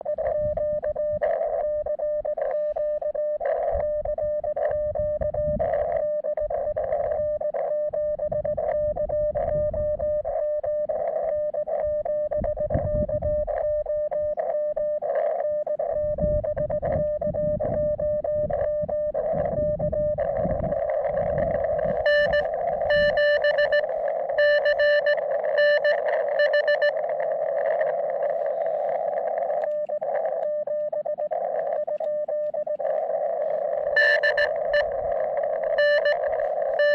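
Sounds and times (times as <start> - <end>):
morse code tone: 0.0 - 36.9
radio static hiss: 0.0 - 36.9.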